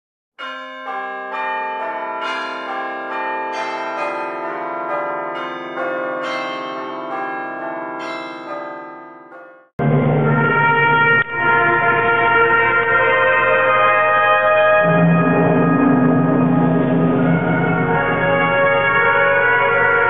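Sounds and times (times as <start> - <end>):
church bells ringing: 0.4 - 20.0.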